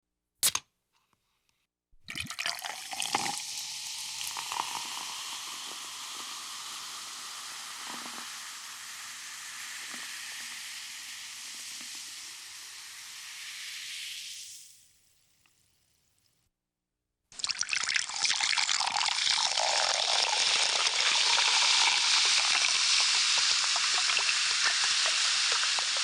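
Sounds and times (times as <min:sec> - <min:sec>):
soda pouring into a glass: 0:02.1 - 0:15.1, 0:17.4 - 0:26.0
carbonated fizz: 0:02.1 - 0:15.4, 0:17.4 - 0:26.0.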